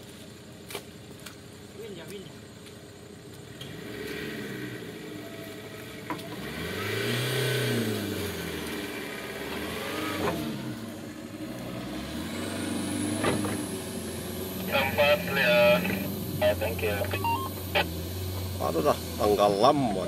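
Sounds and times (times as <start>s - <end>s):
engine revving: 3.6s - 20.0s.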